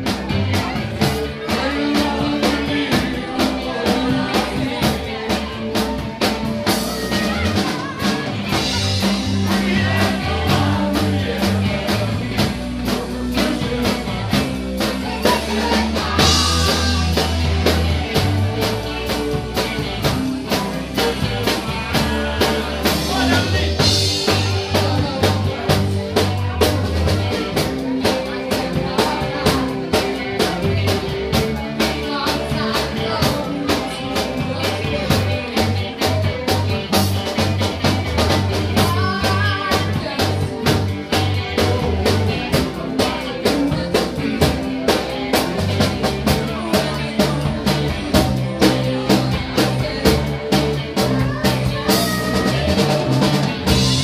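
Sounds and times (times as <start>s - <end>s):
bass guitar: 0.0s - 54.0s
electric guitar: 0.0s - 54.0s
steady drum beat: 0.0s - 54.0s.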